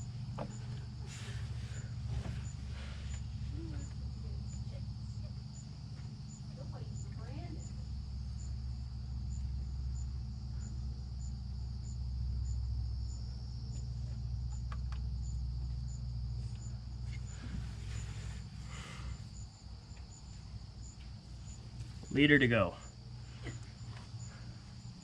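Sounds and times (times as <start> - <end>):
insect chirping in high ticks: 0.0 - 25.0
steady low rumble: 0.0 - 25.0.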